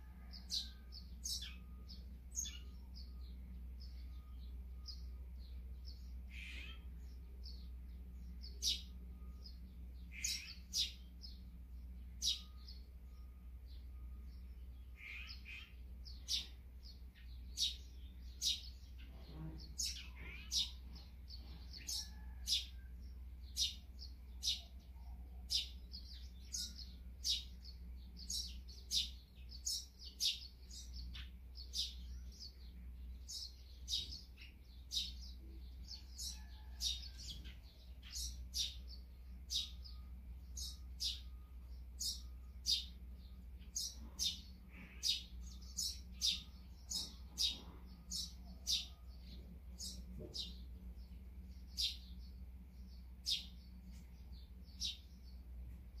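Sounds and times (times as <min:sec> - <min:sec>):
sparrows chirping: 0:00.0 - 0:56.0
steady low hum: 0:00.0 - 0:56.0.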